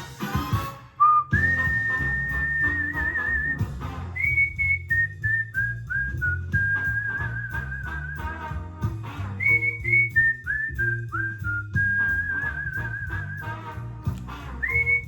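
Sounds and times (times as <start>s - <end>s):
backing music with bass beat: 0.0s - 15.0s
whistled tune: 0.0s - 15.0s.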